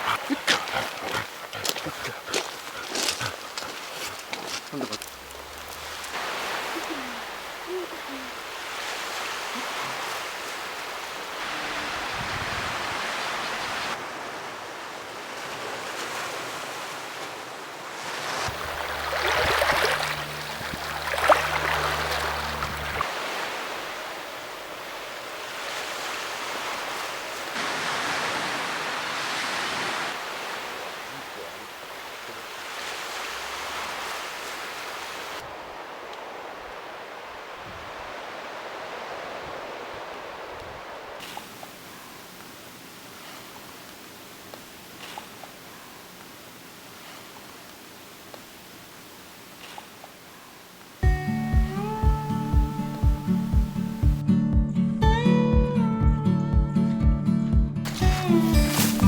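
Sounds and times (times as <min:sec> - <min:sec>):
small waves washing on shore: 0:00.0 - 0:54.2, 0:57.8 - 0:59.0.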